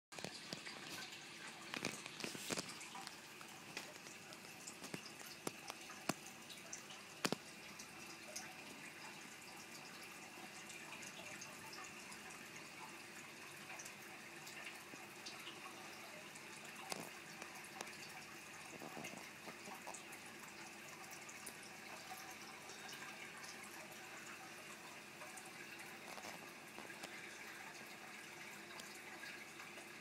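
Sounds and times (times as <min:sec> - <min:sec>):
aquarium water running and dripping: 0:00.1 - 0:30.0.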